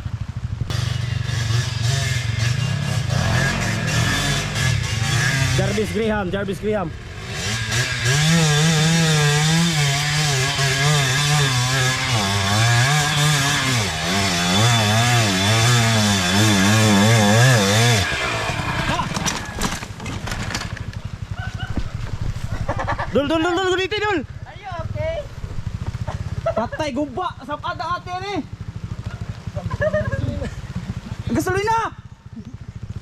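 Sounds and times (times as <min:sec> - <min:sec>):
dirt bike engine revving: 0:00.4 - 0:31.8.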